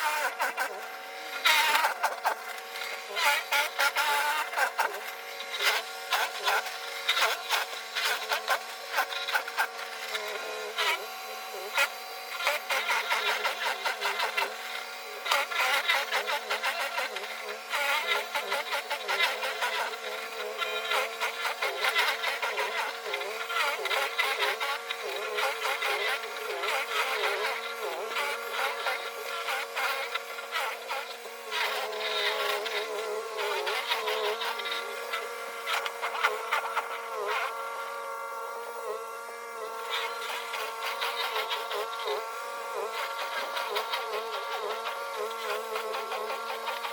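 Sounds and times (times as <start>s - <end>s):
electric snow blower whining: 0.0s - 46.9s.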